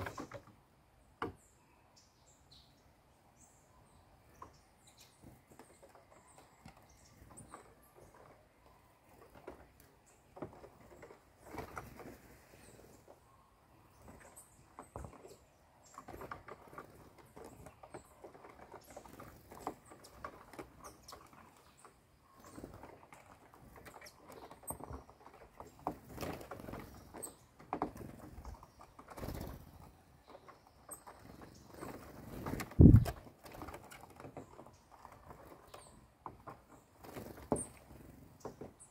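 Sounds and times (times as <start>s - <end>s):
birds tapping and scrabbling on roof: 0.0s - 38.9s.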